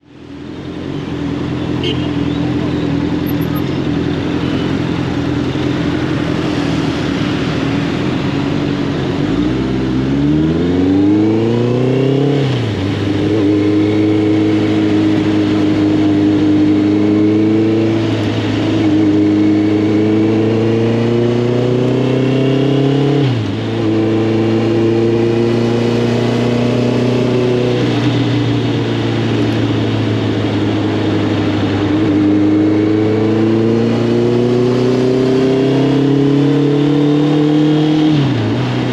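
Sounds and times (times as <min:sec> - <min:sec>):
motorcycle engine revving: 0:00.3 - 0:38.9.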